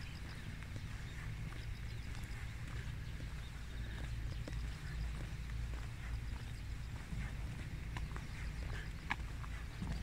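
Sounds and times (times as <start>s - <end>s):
faint clicks and chirps: 0.0s - 10.0s
wind buffeting microphone: 0.0s - 10.0s.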